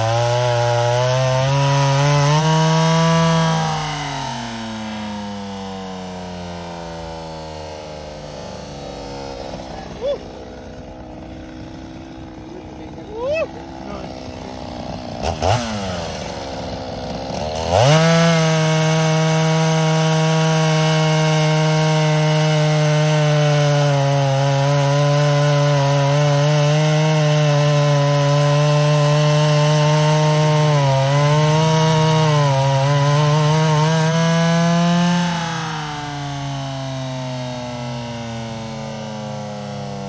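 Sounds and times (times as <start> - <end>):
chainsaw revving cutting log: 0.0 - 40.0.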